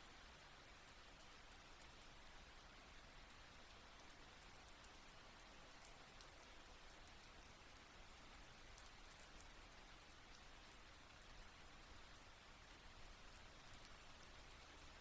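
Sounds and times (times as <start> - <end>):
light rain hiss: 0.0 - 15.0.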